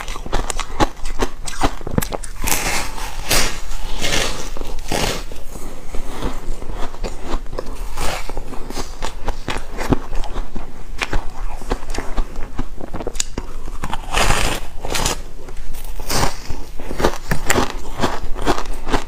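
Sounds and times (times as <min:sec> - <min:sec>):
crunchy ice chewing: 0:00.0 - 0:19.0.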